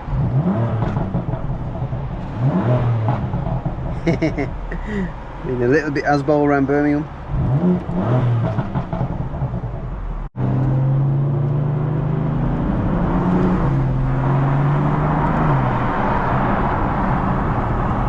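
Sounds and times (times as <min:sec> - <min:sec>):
car engine drone while driving: 0:00.0 - 0:18.0.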